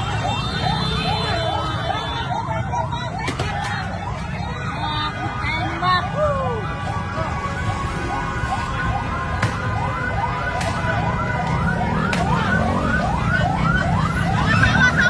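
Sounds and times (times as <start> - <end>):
emergency vehicle sirens: 0.0 - 15.0
street commotion: 0.0 - 15.0.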